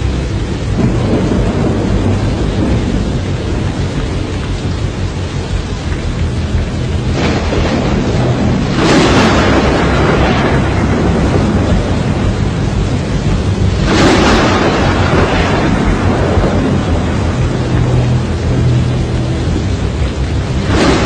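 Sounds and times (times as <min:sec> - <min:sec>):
rain: 0:00.0 - 0:21.0
storm wind: 0:00.0 - 0:21.0.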